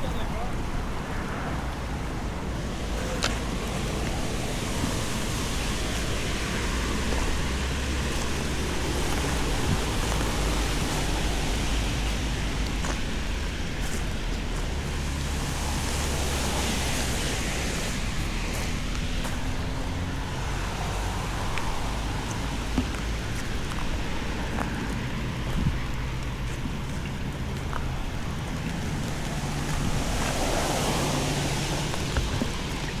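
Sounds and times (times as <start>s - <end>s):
wind buffeting microphone: 0.0s - 33.0s
rain hissing: 2.6s - 26.5s, 27.4s - 33.0s.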